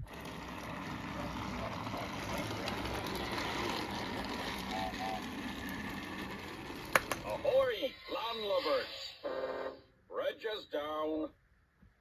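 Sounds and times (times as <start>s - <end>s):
toy train motor whir and rattle: 0.0s - 9.8s.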